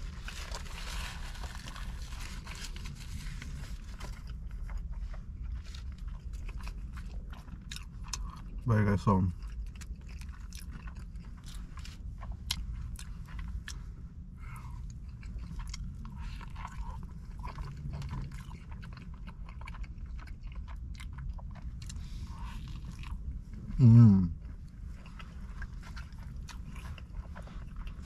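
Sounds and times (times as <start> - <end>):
person chewing crunchy food: 0.0 - 28.0
steady low rumble: 0.0 - 28.0.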